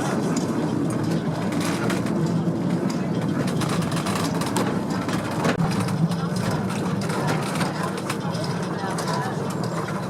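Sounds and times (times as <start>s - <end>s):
railway coach rumbling on rails: 0.0s - 10.0s
wheels clicking and knocking: 0.0s - 10.0s.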